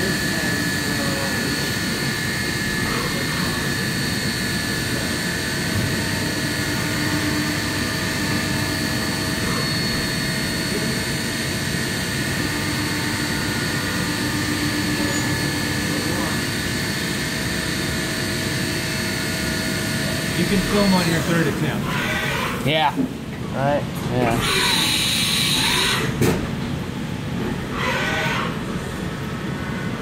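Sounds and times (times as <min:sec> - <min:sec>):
machine high whine: 0:00.0 - 0:23.0, 0:24.3 - 0:30.0
low machine hum: 0:00.0 - 0:24.9.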